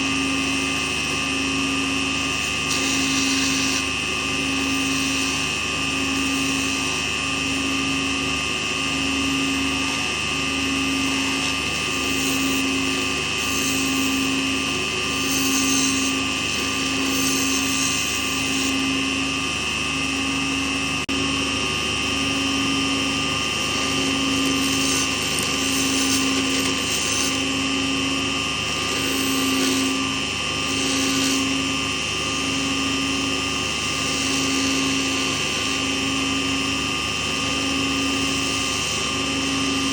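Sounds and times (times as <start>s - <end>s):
small lathe motor whine: 0.0s - 39.9s.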